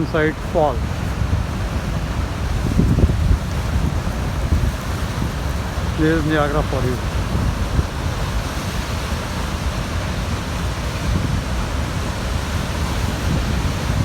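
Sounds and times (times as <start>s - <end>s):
waterfall rushing: 0.0s - 14.0s
wind rumble on microphone: 0.0s - 14.0s.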